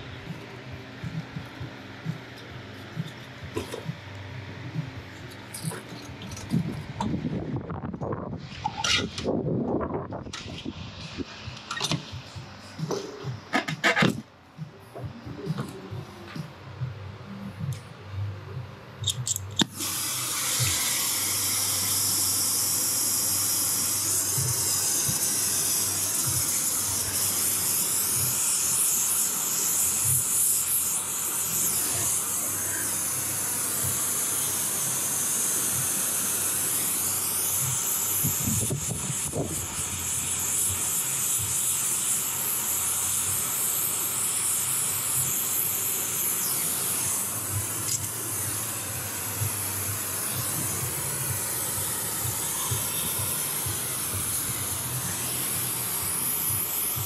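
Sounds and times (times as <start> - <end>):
torch flame hissing: 0.0 - 14.2, 19.0 - 57.0.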